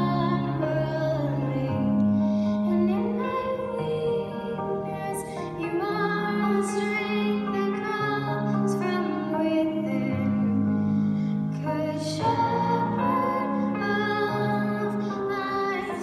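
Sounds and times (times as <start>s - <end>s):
girl singing into microphone: 0.0s - 16.0s.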